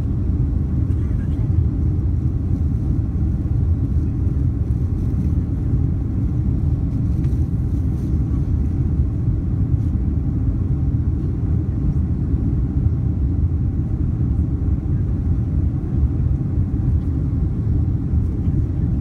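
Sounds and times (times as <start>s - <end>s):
jet engines at climb power: 0.0s - 19.0s.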